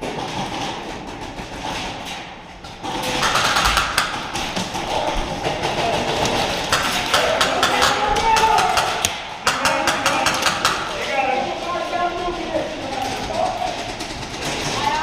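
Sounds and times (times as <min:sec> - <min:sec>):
footsteps: 0:00.0 - 0:15.0
airsoft guns firing: 0:02.6 - 0:15.0.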